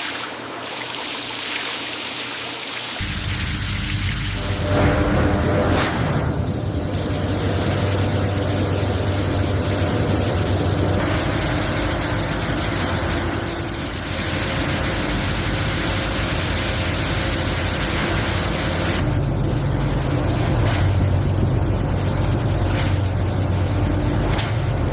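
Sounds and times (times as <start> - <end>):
factory machinery humming and hissing: 2.9 - 24.9.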